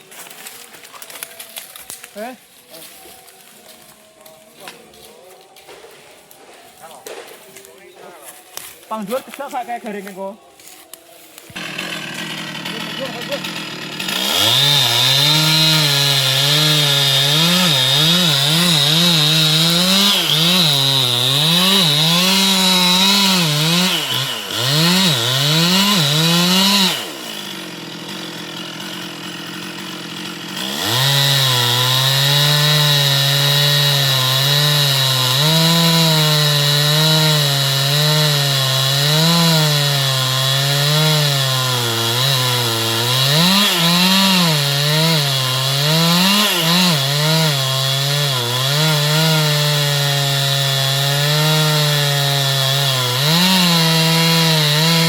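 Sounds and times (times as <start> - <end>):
chainsaw cutting wood: 0.0 - 3.4, 8.3 - 55.0.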